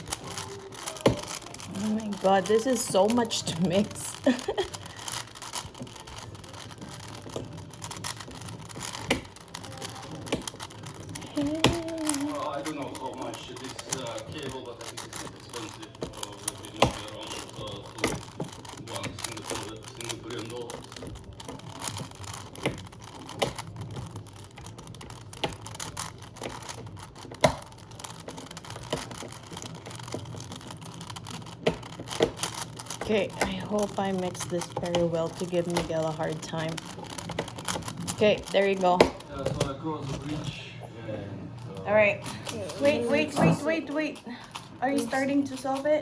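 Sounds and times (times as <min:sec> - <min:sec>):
plastic puzzle cube layers clicking: 0:00.0 - 0:40.5.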